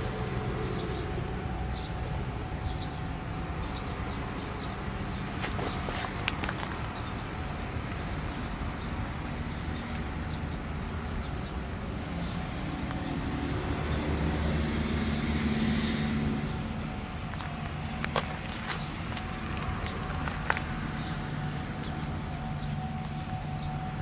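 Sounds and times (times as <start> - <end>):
vehicle passing by: 0.0 - 24.0.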